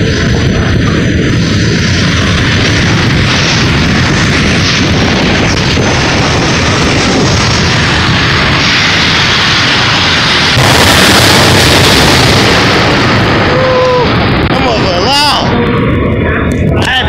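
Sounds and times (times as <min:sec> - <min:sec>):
jet engine rushing: 0:00.0 - 0:17.0.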